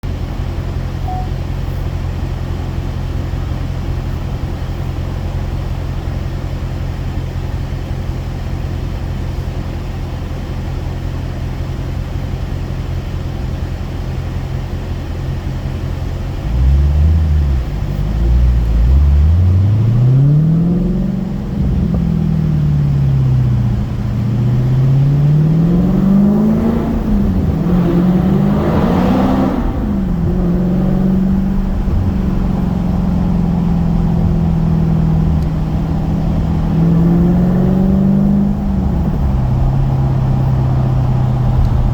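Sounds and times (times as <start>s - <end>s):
car exhaust drone: 0.0s - 41.9s.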